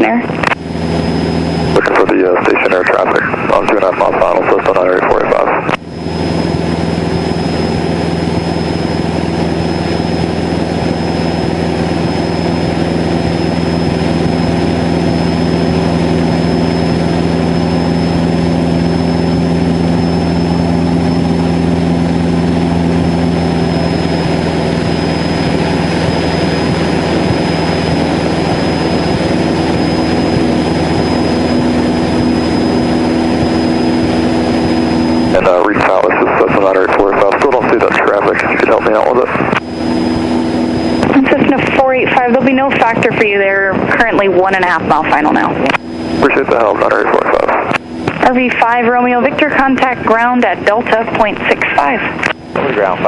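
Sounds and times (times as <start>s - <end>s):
airplane engine and propeller drone: 0.0s - 53.0s.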